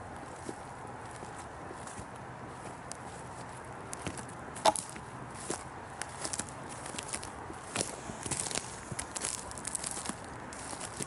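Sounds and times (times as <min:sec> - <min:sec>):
footsteps on forest floor: 0:00.0 - 0:11.0.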